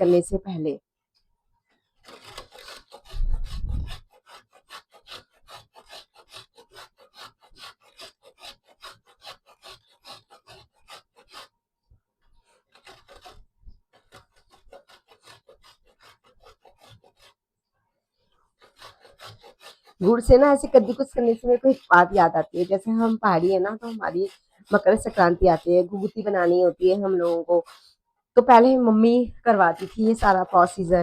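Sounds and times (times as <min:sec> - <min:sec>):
grating on metal grater: 0:00.0 - 0:00.4, 0:02.0 - 0:11.5, 0:12.3 - 0:17.4, 0:18.5 - 0:31.0.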